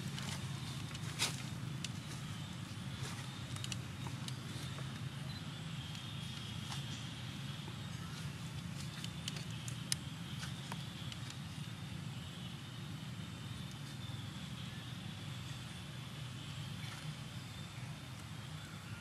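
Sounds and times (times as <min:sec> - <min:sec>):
faint high hum: 0:00.0 - 0:19.0.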